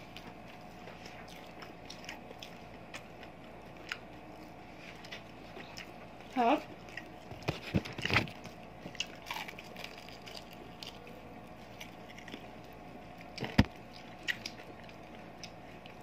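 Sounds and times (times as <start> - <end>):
chewing and biting food: 0.0 - 6.1, 6.7 - 16.0
faint steady hum: 0.0 - 16.0.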